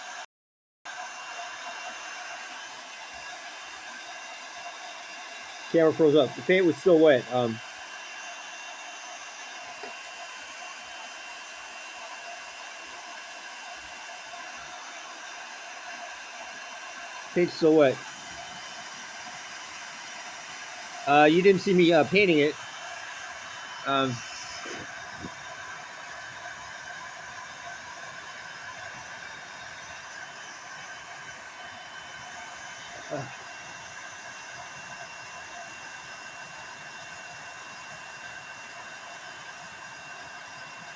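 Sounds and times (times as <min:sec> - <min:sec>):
hair dryer running: 0:00.9 - 0:40.9.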